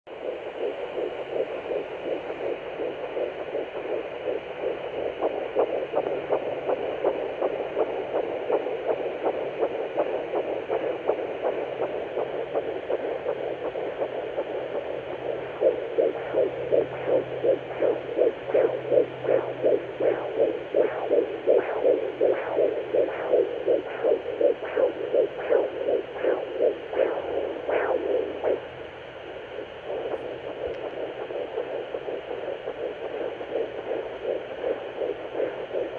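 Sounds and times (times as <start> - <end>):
fetal heartbeat whooshing pulses: 0.1 - 35.9.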